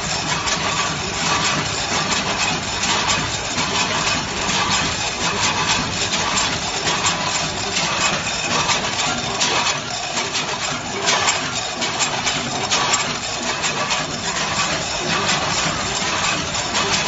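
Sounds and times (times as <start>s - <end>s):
corn kernels rattling on metal pans: 0.0s - 17.0s.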